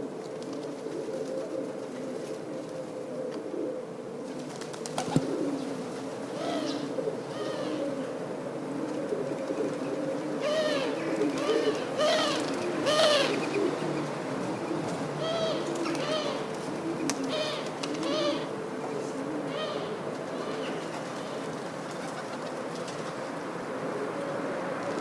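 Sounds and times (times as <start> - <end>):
pigeons cooing: 0.0 - 25.0.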